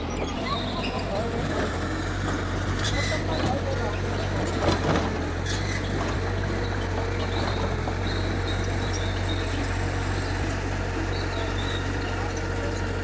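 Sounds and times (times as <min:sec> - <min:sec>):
bulldozer diesel engine droning: 0:00.0 - 0:13.0.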